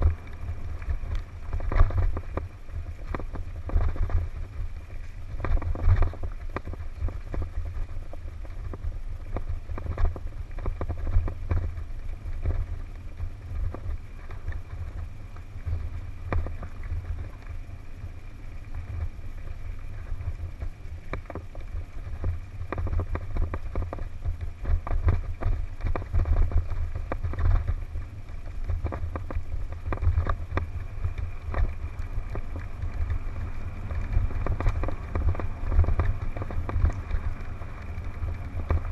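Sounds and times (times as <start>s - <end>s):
bike rattling and knocking: 0.0s - 38.9s
wind rumble on microphone: 0.0s - 38.9s.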